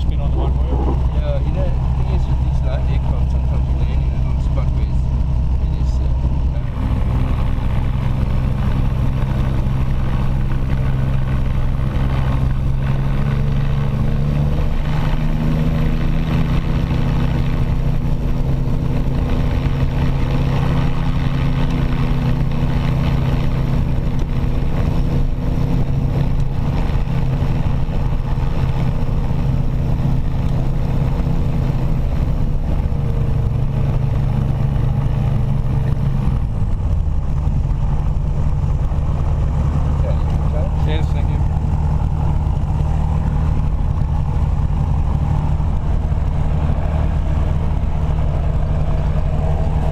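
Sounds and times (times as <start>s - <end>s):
light aircraft engine and propeller: 0.0s - 49.9s.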